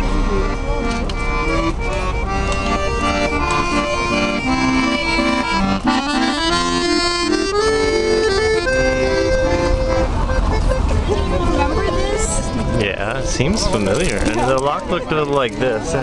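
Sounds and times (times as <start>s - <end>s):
accordion playing a tune: 0.0s - 16.0s.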